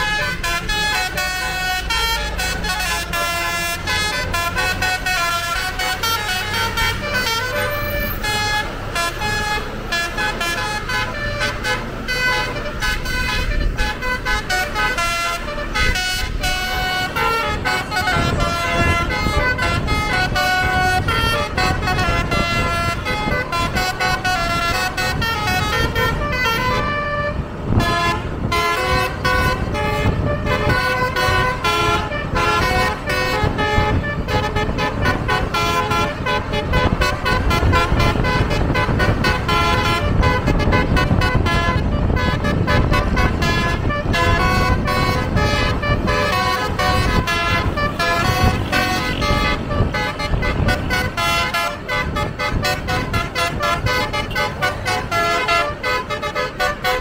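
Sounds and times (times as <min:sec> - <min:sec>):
bus engine low rumble: 0:00.0 - 0:57.0
bus musical horn playing fast tune: 0:00.0 - 0:57.0.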